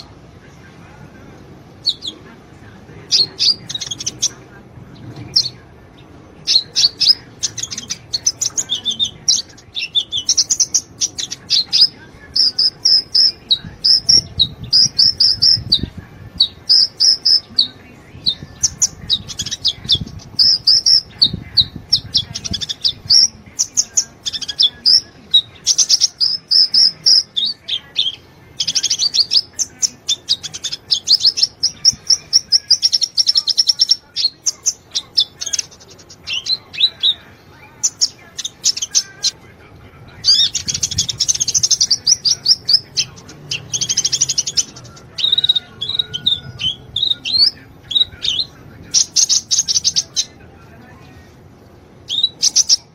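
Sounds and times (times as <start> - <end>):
bird chirping trills: 1.7 - 2.2, 3.1 - 39.4, 40.2 - 50.4, 52.0 - 52.9.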